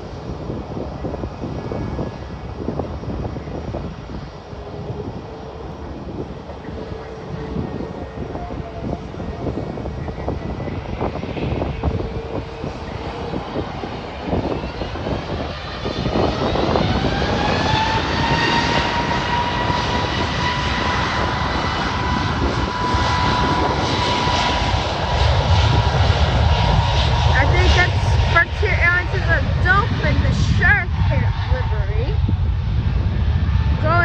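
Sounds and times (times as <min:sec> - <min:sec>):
jet engines spooling up: 0:04.4 - 0:34.0.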